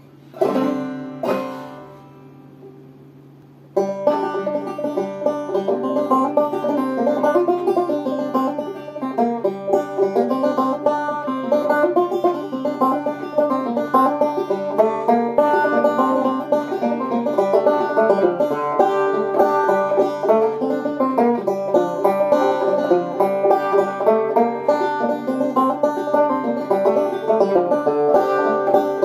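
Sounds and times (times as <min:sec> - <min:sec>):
banjo picked melody: 0:00.0 - 0:02.7, 0:03.7 - 0:29.0
faint low hum: 0:00.0 - 0:29.0
banjo chords ringing: 0:00.4 - 0:02.4, 0:03.8 - 0:29.0.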